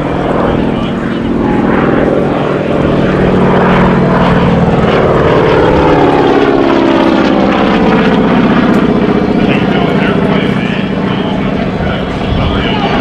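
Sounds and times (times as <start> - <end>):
propeller plane engine flyby: 0.0 - 13.0.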